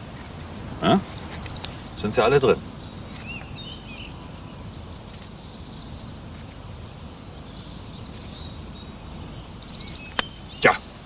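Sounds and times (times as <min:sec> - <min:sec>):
songbirds singing: 0:00.0 - 0:11.0
thin bird chirps: 0:00.8 - 0:10.9.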